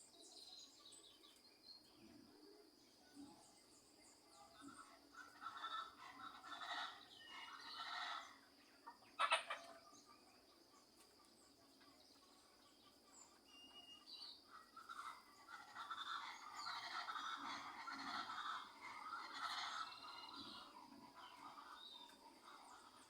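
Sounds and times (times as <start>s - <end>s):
birdsong and chatter: 0.0s - 23.0s.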